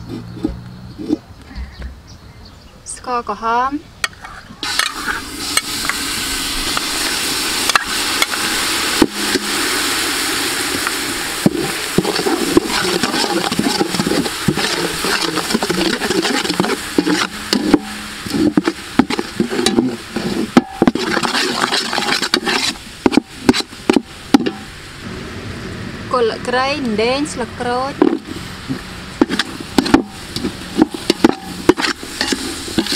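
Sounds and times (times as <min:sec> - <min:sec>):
metal ladle scraping pot: 0:00.0 - 0:01.3, 0:04.2 - 0:24.8, 0:28.0 - 0:32.9
sugar syrup sizzling and bubbling: 0:04.6 - 0:25.1, 0:26.8 - 0:32.9.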